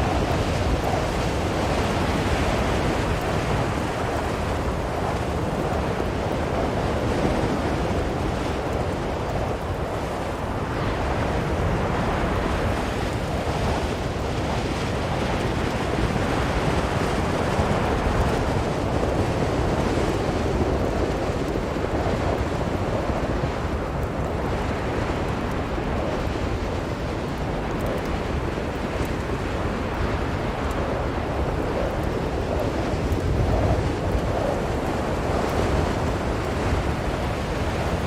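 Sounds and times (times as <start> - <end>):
strong blizzard wind blowing: 0.0 - 38.0.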